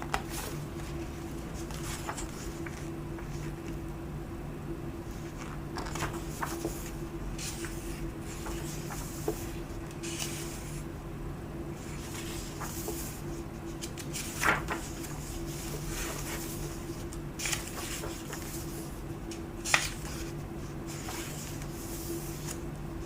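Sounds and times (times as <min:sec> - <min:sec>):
book pages turning: 0:00.0 - 0:03.9, 0:05.0 - 0:10.8, 0:11.8 - 0:22.7
steady low hum: 0:00.0 - 0:23.0.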